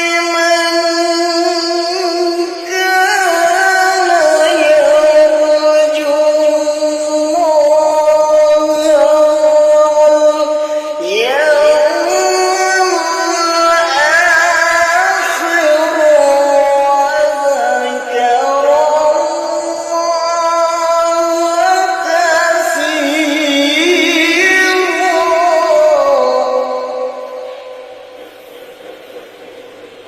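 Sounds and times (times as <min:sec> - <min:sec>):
melodic solo voice recitation: 0:00.0 - 0:27.9.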